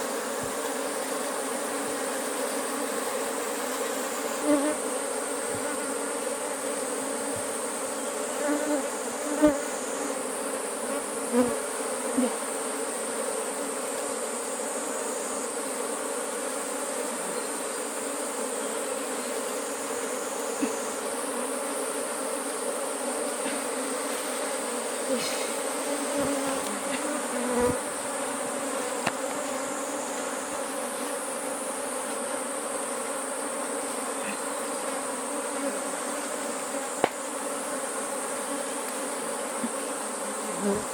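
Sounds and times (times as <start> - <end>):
bee passing close: 0.0 - 40.9
bees buzzing: 0.0 - 40.9.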